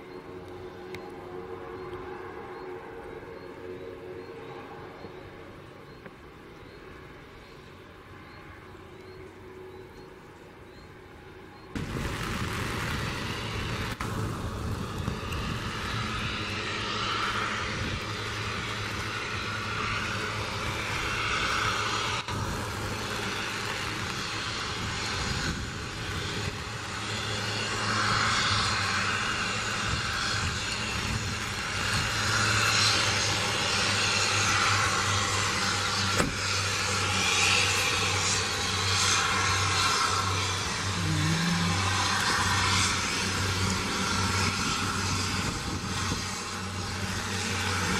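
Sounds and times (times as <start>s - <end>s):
turboprop engines running: 0.0s - 47.9s.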